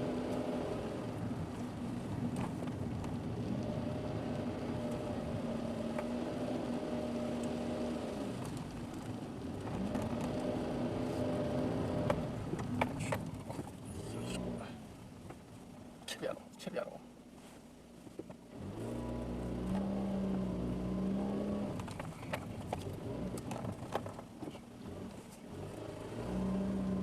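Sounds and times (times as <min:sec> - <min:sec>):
car engine running: 0:00.0 - 0:16.5, 0:17.9 - 0:27.0.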